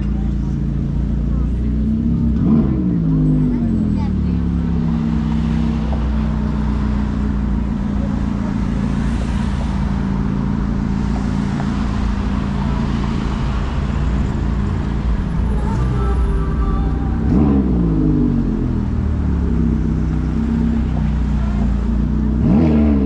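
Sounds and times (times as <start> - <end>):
cars passing: 0.0 - 23.0
vehicle engine humming: 0.0 - 23.0.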